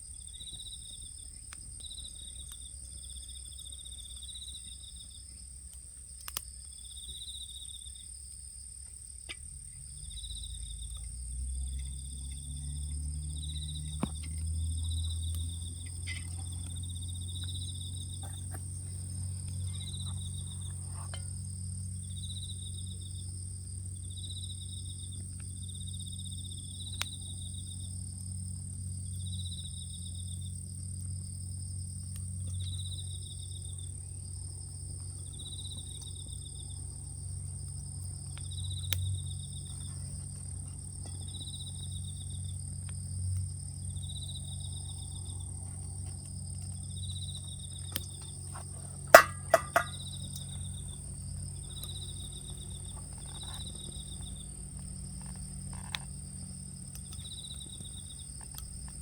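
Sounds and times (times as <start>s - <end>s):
insect chirp: 0.0s - 59.0s
insects trilling: 0.0s - 59.0s
low steady rumble: 0.0s - 59.0s.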